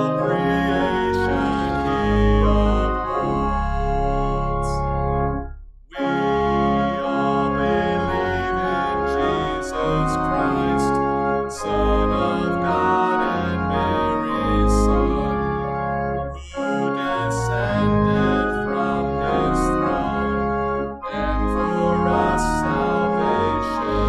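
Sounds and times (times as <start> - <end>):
organ playing hymn chords: 0.0 - 24.0.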